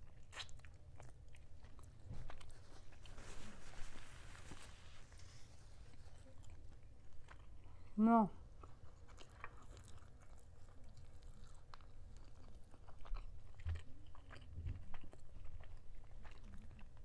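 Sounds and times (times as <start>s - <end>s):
close chewing: 0.0s - 17.0s.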